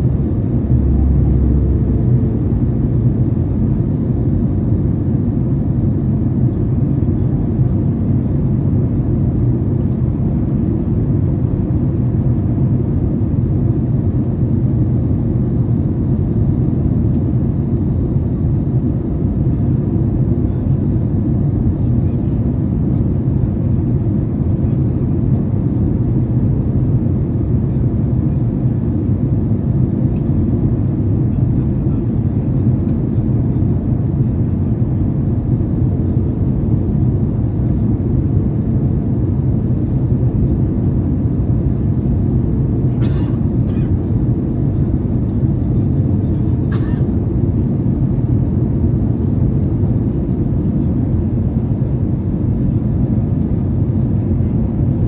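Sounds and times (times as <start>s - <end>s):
airliner cabin engine rush: 0.0s - 55.0s.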